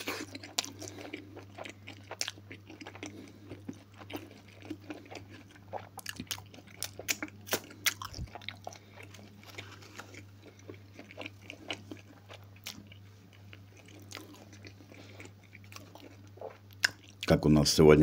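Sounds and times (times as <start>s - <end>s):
person chewing food: 0.0s - 17.3s.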